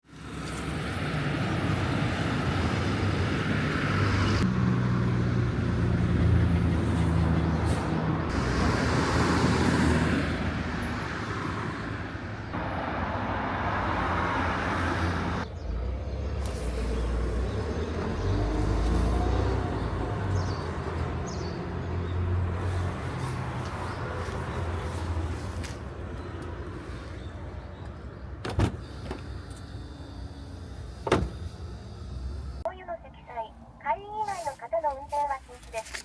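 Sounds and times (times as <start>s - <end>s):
road traffic: 0.0s - 36.0s
car engine: 0.4s - 32.7s.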